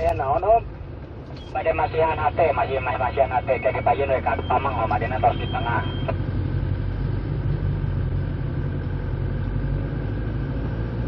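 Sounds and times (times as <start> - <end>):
car engine drone: 0.0 - 11.0
road noise inside car: 0.0 - 11.0.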